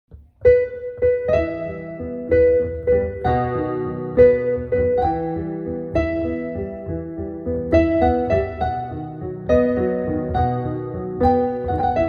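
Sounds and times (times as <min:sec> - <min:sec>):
slow gentle solo piano: 0:00.1 - 0:12.0.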